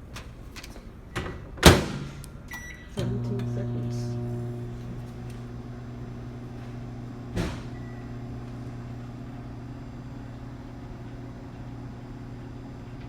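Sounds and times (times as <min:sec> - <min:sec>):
microwave oven humming: 0:01.6 - 0:13.0.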